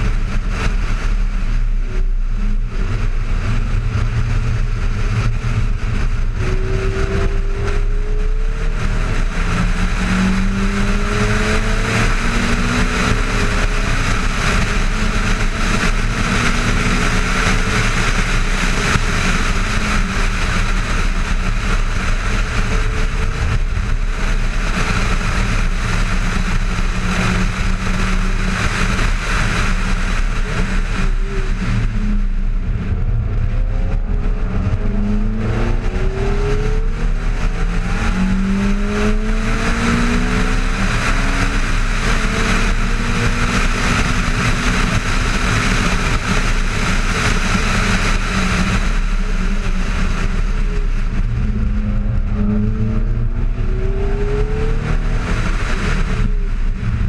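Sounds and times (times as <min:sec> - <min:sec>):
sports car engine revving: 0:00.0 - 0:57.0
wind rush: 0:00.0 - 0:57.0.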